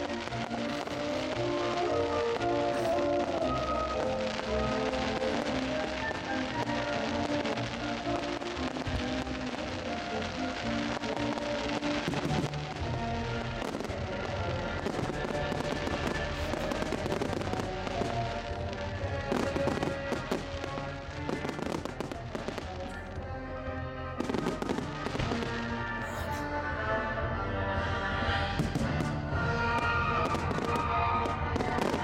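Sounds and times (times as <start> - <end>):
fireworks bursting and crackling: 0.0 - 26.5, 28.5 - 32.0
music: 0.0 - 32.0.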